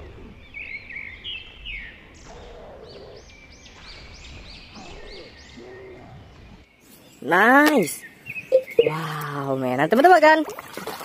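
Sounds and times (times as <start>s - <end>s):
bird chirping: 0.0s - 9.5s.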